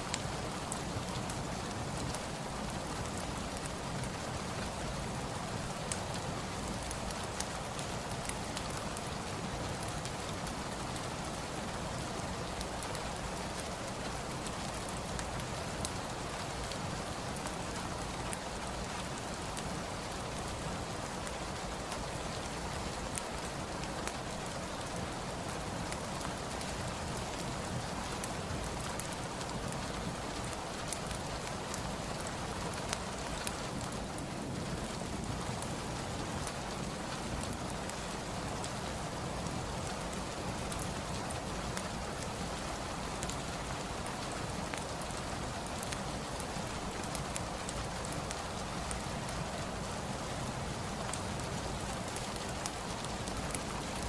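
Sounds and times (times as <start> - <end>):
rain falling: 0.0 - 54.0
wood fire crackling: 0.1 - 54.0.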